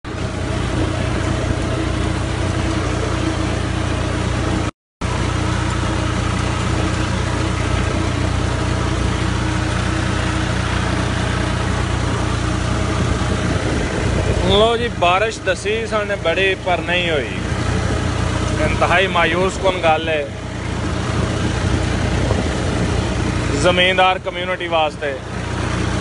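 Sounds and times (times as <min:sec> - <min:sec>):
tractor diesel engine running: 0:00.0 - 0:26.0
tractor driving through water: 0:00.0 - 0:26.0.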